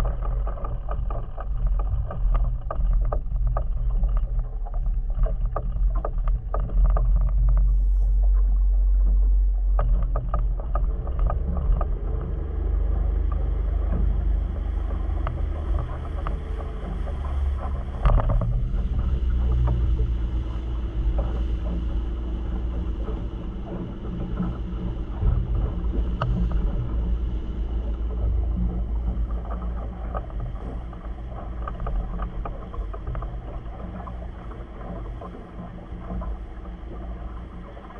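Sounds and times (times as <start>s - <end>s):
water around a boat: 0.0s - 37.9s
wind rumble: 0.0s - 37.9s.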